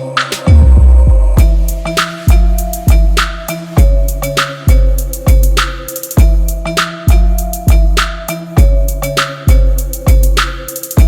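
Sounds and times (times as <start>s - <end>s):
music with heavy bass drum: 0.0s - 11.0s.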